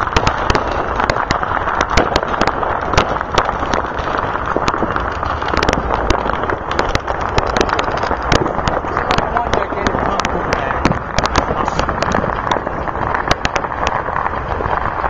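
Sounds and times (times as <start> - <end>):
distant fireworks bangs: 0.0 - 15.0
firecrackers popping: 0.0 - 15.0.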